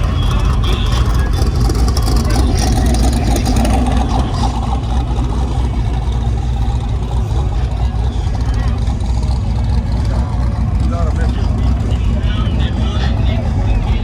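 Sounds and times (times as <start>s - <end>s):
faint voices: 0.0s - 14.0s
vehicle engine running: 0.0s - 14.0s.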